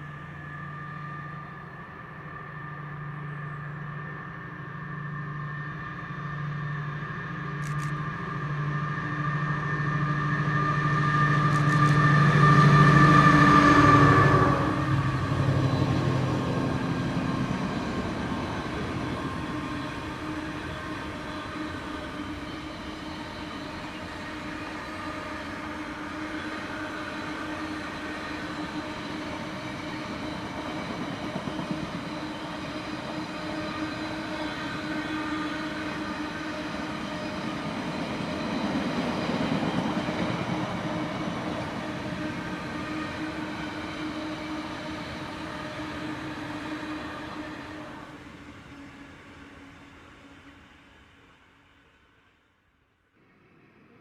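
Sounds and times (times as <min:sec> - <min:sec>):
train wheels rolling on rails: 0:00.0 - 0:50.8
train hum: 0:00.0 - 0:54.0.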